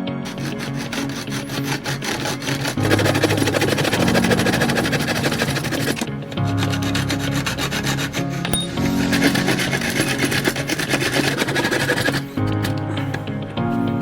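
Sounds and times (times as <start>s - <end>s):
rasping rubbing noise: 0.2s - 14.0s.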